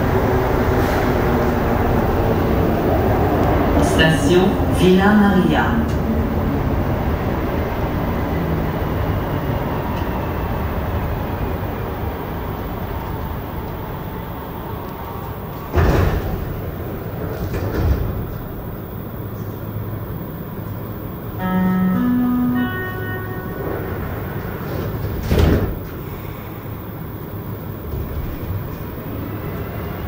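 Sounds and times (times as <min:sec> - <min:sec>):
sliding doors opening: 0:00.0 - 0:03.8, 0:05.7 - 0:19.6, 0:21.9 - 0:26.8, 0:27.4 - 0:30.0
train running rumble: 0:00.0 - 0:30.0.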